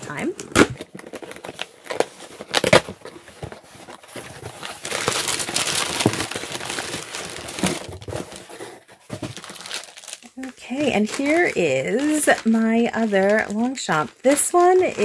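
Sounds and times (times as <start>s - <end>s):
paper and plastic crinkling: 0.0s - 15.0s.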